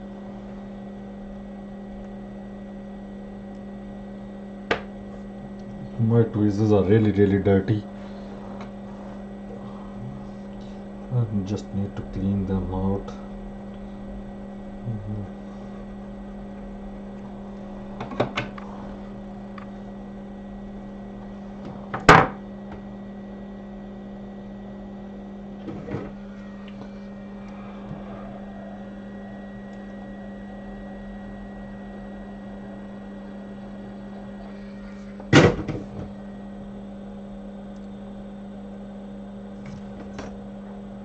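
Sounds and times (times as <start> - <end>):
electrical equipment hum: 0.0 - 41.0.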